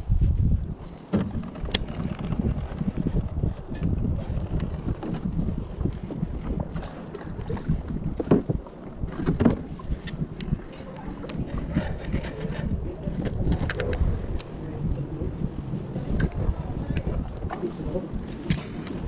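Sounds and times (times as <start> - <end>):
wind rumbling on microphone: 0.0 - 19.0
fishing gear clicks and knocks: 0.8 - 14.7, 15.4 - 19.0.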